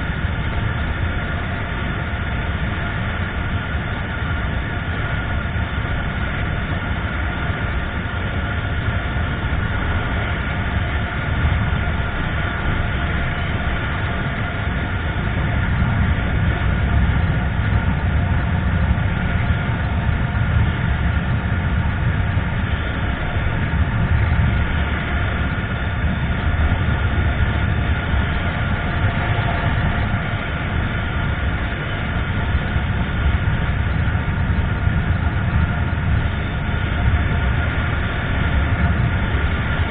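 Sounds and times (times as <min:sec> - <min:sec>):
road rumble: 0:00.0 - 0:39.9
wind rush: 0:00.0 - 0:39.9.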